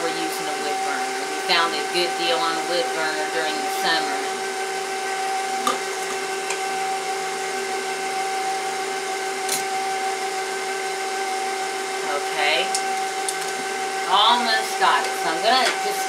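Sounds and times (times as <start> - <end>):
stand mixer motor whine: 0.0 - 16.0.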